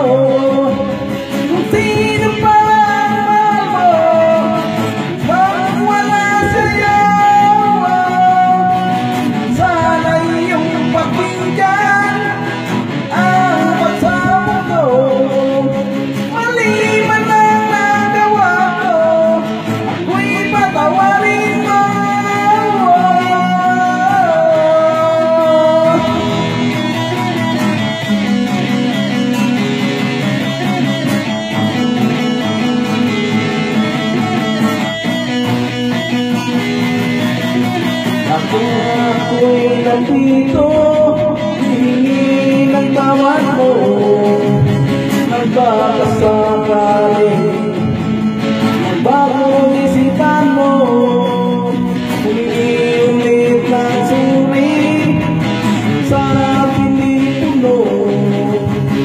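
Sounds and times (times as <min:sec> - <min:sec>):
electric guitars playing: 0:00.0 - 0:59.0
man singing: 0:00.0 - 0:59.0.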